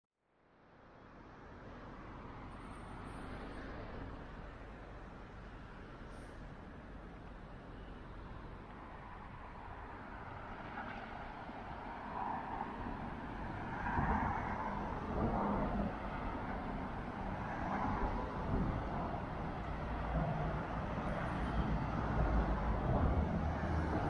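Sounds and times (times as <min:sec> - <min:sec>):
cars passing on street: 0:00.5 - 0:24.0.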